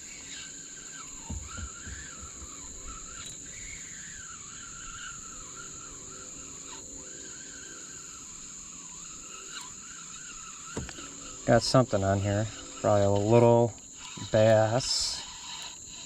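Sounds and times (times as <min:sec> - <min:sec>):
faint wavering tone: 0:00.0 - 0:16.0
insects droning: 0:00.0 - 0:16.0.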